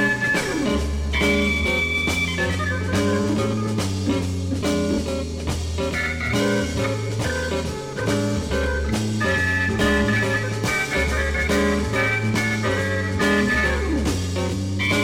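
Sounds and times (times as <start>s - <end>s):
bass line: 0.0s - 15.0s
drums: 0.0s - 15.0s
guitar: 0.0s - 15.0s
organ: 0.0s - 15.0s.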